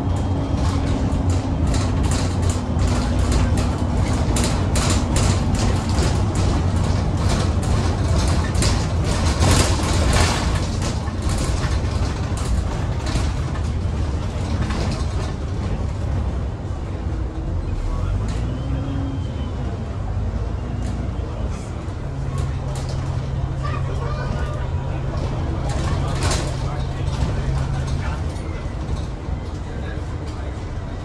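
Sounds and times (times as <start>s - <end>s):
bus engine and road drone: 0.0s - 31.0s.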